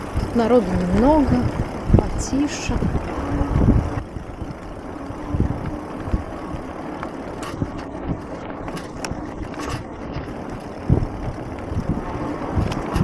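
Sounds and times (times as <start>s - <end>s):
bike rattling over bumps: 0.0s - 13.0s
wide tyres rumbling: 0.0s - 13.0s.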